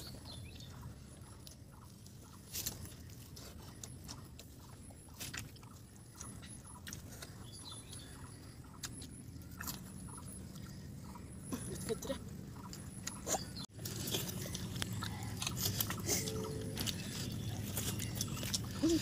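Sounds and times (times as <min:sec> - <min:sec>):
chewing and mouth smacks: 0:00.0 - 0:11.2, 0:12.5 - 0:19.0
low steady hum: 0:00.0 - 0:19.0.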